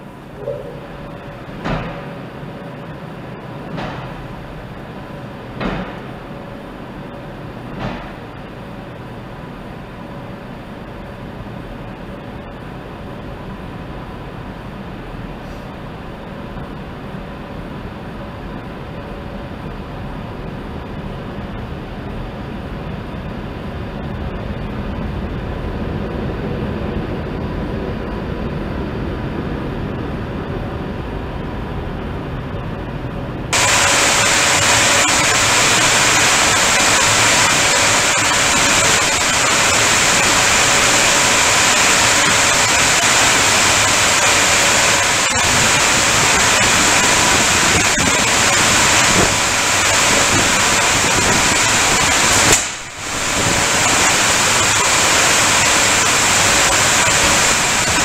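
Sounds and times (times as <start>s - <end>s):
car wash gantry rumble: 0.0s - 58.0s
car wash steady hiss: 0.0s - 58.0s.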